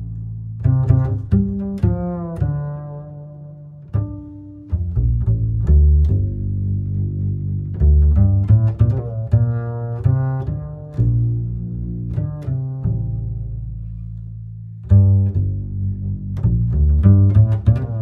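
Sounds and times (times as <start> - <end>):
plucked and bowed strings: 0.0 - 18.0
strong bass: 0.0 - 18.0.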